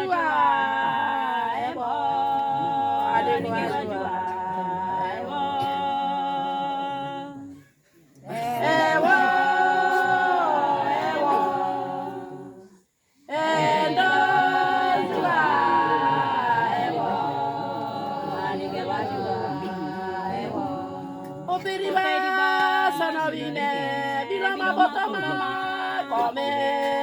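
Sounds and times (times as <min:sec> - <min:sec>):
women's choir singing unaccompanied: 0:00.0 - 0:27.0.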